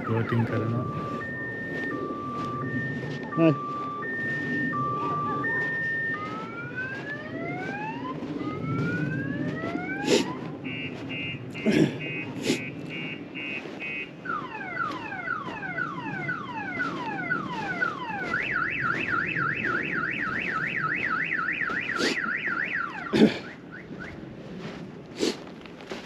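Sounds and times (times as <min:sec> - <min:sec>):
car alarm siren: 0:00.0 - 0:24.4.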